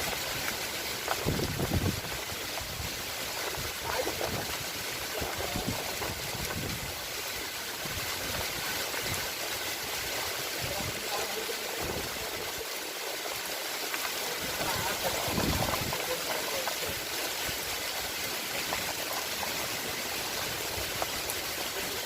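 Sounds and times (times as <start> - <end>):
running water hiss: 0.0 - 22.0.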